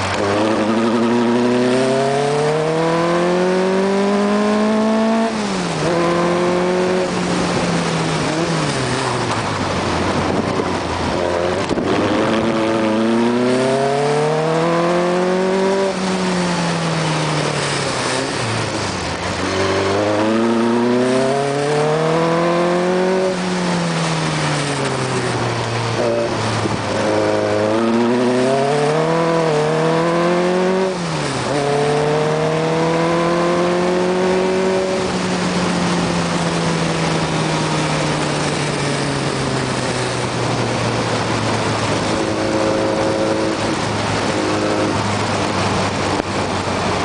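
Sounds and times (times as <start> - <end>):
racing car engine revving: 0.0 - 47.0
wind rushing over microphone: 4.8 - 47.0.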